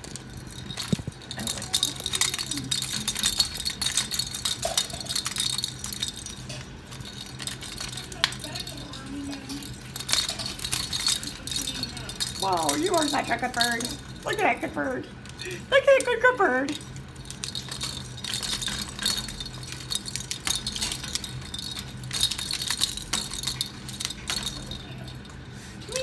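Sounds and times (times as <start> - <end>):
bird toy ball rattling: 0.0 - 26.0.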